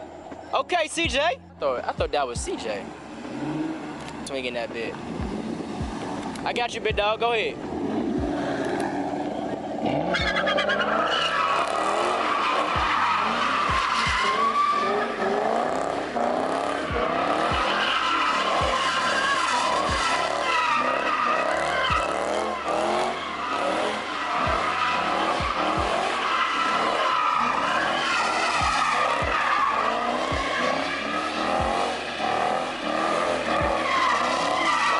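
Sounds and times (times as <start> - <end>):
tires squealing: 0.0 - 34.9
engine revving: 3.1 - 34.9.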